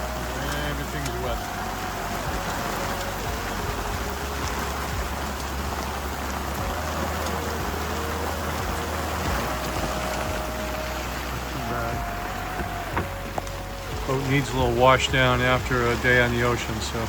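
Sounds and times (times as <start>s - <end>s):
heavy rain on a boat: 0.0s - 17.0s.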